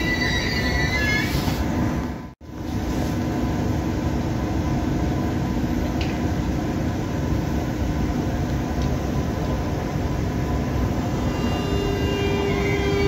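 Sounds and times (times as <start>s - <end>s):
train ventilation hum and hiss: 0.0s - 13.0s.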